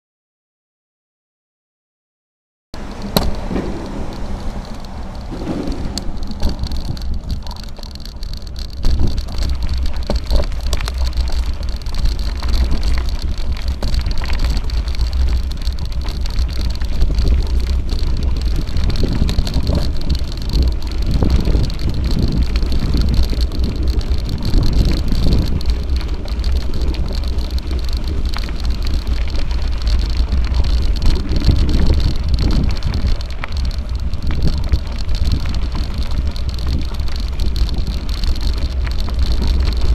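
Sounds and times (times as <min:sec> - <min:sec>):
bike knocks and rattles: 0:02.8 - 0:39.9
bike tyres crunching on gravel: 0:02.8 - 0:39.9
wind rumble on microphone: 0:02.8 - 0:39.9.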